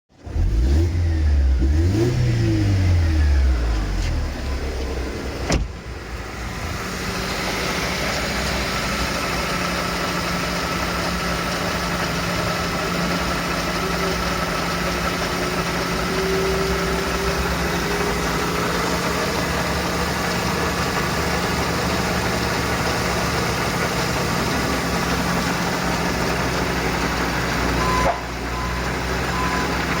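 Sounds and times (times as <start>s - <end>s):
engine running: 0.2s - 30.0s.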